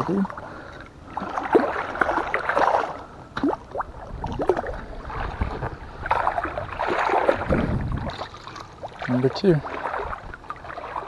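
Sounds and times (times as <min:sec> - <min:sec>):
fish thrashing water splashing: 0:01.2 - 0:11.0.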